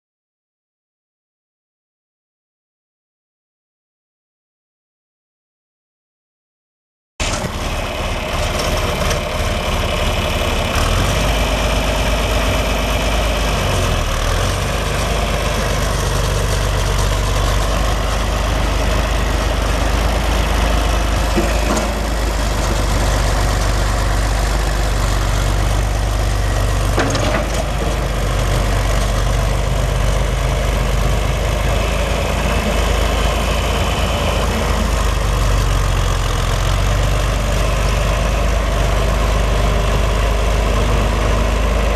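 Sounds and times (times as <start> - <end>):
tractor diesel engine idling: 7.2 - 41.9.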